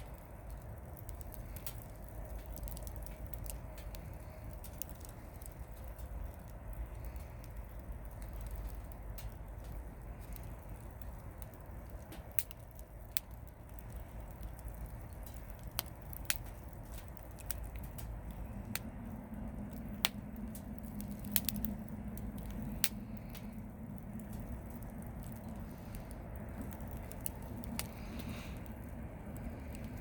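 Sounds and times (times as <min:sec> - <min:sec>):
campfire rumbling: 0:00.0 - 0:30.0
wood crackling and snapping: 0:00.0 - 0:30.0.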